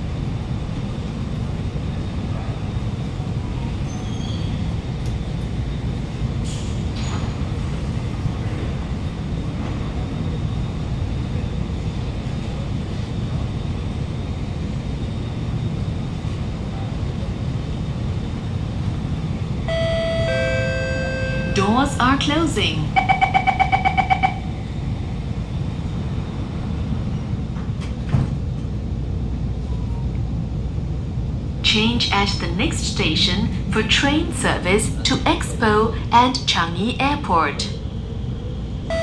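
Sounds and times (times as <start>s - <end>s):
metro carriage low hum: 0.0s - 39.0s.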